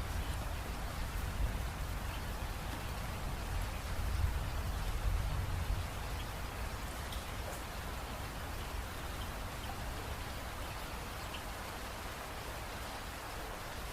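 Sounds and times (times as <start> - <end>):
steady rain hiss: 0.0 - 13.9.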